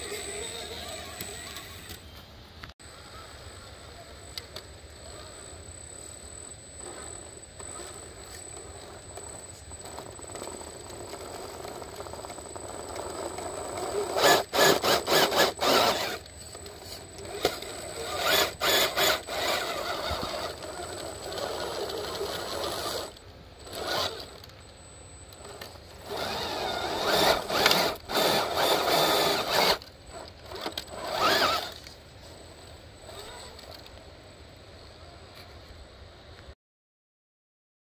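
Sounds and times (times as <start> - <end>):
rc truck motor whirring: 0.0 - 2.2, 4.3 - 34.1.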